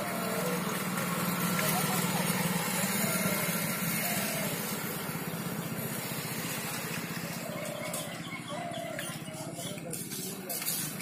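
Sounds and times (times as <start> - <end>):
outdoor background noise: 0.0 - 11.0
steady engine hum: 0.0 - 11.0.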